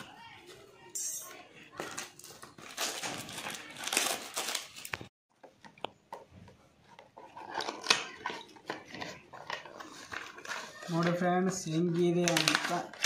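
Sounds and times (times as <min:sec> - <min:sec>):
plastic wrap rustling: 0:00.0 - 0:05.1, 0:06.8 - 0:13.0.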